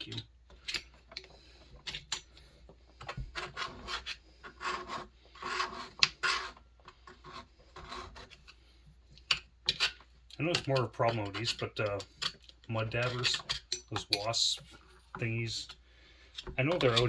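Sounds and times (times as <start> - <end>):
scraping and rubbing strokes: 2.6 - 17.0.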